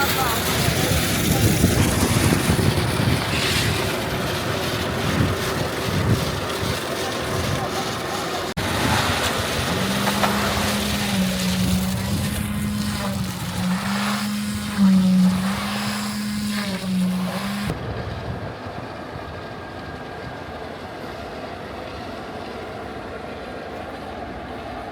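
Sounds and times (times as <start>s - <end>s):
heavy engine drone: 0.0s - 24.9s
outdoor background noise: 0.0s - 24.9s.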